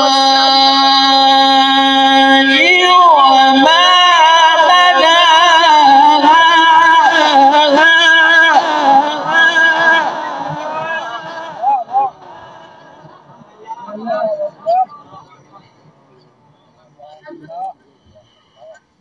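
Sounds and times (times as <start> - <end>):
man chanting melodic recitation: 0.0 - 17.0.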